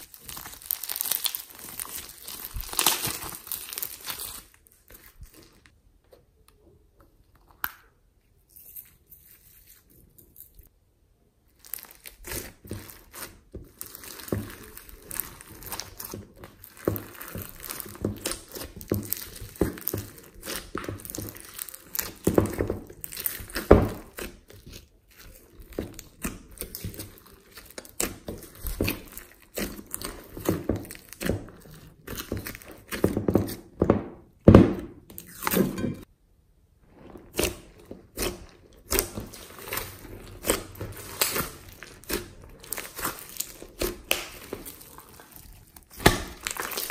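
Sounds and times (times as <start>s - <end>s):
slime squelching and popping: 0.0s - 5.7s, 11.5s - 35.8s, 36.9s - 46.9s.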